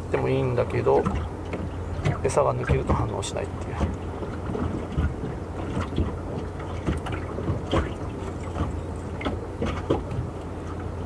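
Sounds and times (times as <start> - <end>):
small waves lapping against boat: 0.0 - 11.0
wind rumble on microphone: 0.0 - 11.0.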